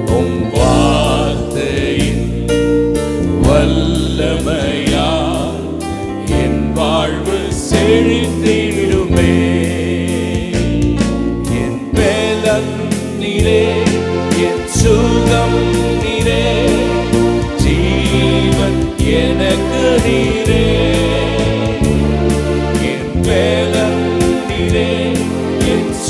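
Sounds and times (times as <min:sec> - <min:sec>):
man singing: 0:00.0 - 0:02.5, 0:03.3 - 0:22.0, 0:22.8 - 0:26.0
instrumental backing with bass: 0:00.0 - 0:26.0.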